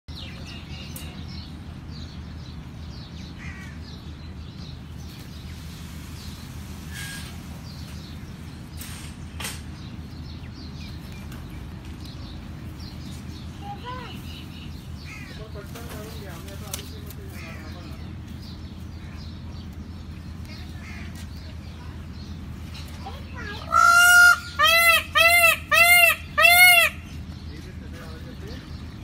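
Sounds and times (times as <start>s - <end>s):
birds calling: 0.1s - 29.0s
low background rumble: 0.2s - 29.0s.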